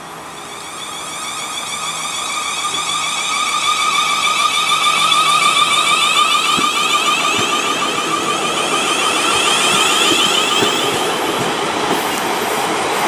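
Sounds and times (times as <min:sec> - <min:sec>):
electric train motor whine: 0:00.0 - 0:12.4.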